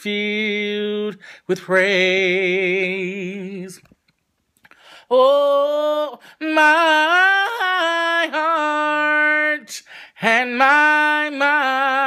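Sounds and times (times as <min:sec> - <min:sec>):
person singing unaccompanied: 0:00.0 - 0:04.0, 0:05.0 - 0:12.0.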